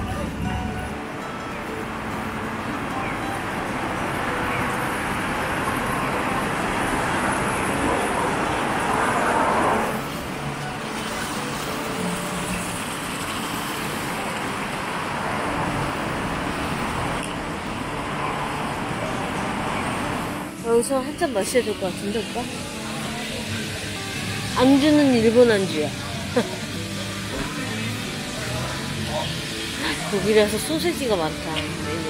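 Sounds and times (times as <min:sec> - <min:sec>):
city traffic noise: 0:00.0 - 0:32.0.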